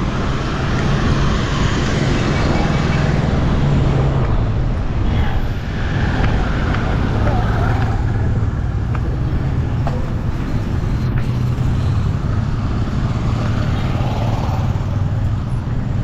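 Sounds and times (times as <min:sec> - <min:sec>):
vehicle engine and road hum: 0:00.0 - 0:16.0.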